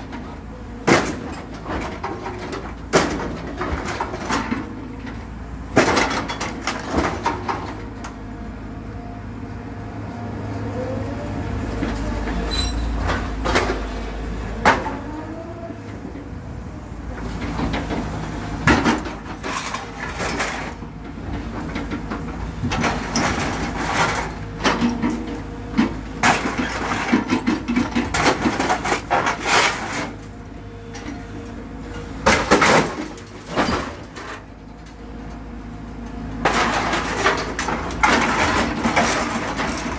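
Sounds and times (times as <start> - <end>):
excavator engine and hydraulics hum: 0.0 - 39.9.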